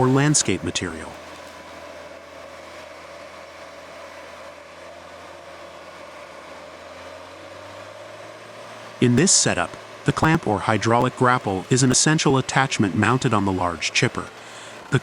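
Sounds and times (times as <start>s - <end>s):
wood chipper engine droning: 0.0s - 15.0s.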